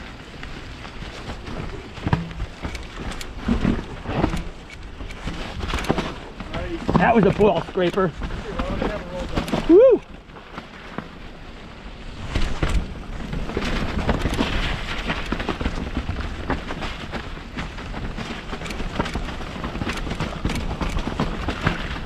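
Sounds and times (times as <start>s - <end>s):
bike knocking and rattling: 0.0s - 22.0s
bike tyres on dirt: 0.0s - 22.0s
wind rumble: 0.0s - 22.0s.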